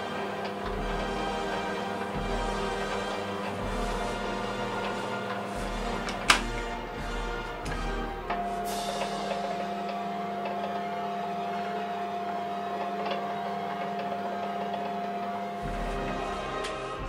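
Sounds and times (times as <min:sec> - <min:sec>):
lathe motor hum and whine: 0:00.0 - 0:17.0.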